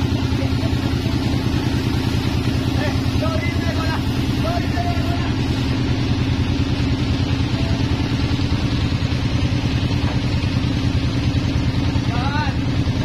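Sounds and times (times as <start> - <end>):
sawmill engine chugging: 0.0 - 13.0.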